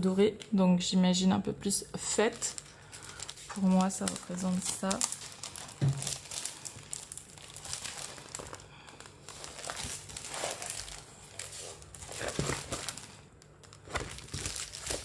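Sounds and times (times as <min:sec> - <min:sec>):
plastic sleeve crinkling: 0:01.9 - 0:15.0
paper pages rustling: 0:02.3 - 0:15.0.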